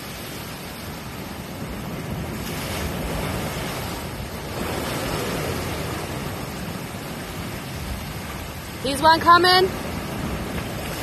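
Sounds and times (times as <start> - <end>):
waves breaking against rocks: 0.0 - 11.0
wind buffeting microphone: 0.0 - 11.0.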